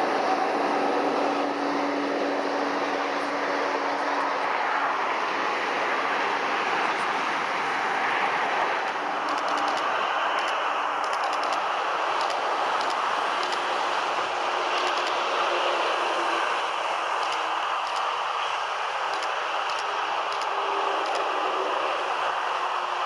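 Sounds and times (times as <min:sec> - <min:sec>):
distant jet engine roar: 0:00.0 - 0:23.0
road traffic: 0:00.0 - 0:23.0.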